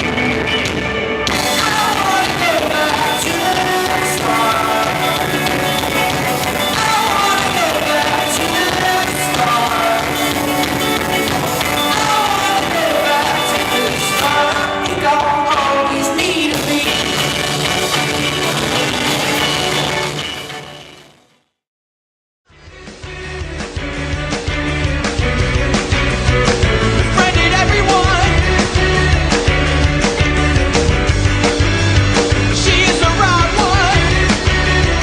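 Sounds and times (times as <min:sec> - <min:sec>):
rock song with singing: 0:00.0 - 0:21.0, 0:22.5 - 0:35.0
drums: 0:00.0 - 0:21.2, 0:22.5 - 0:35.0
guitars: 0:00.0 - 0:21.2, 0:22.5 - 0:35.0.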